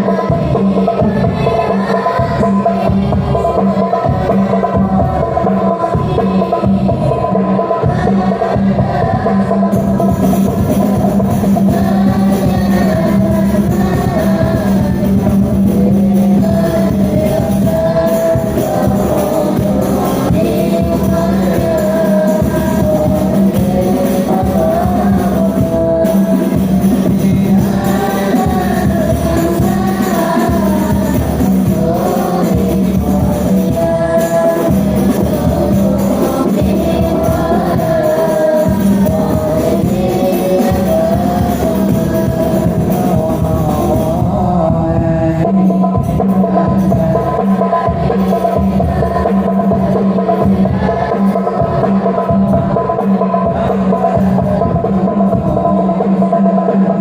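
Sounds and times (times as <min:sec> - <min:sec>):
child singing: 0:00.0 - 0:57.0
hand percussion: 0:00.0 - 0:57.0.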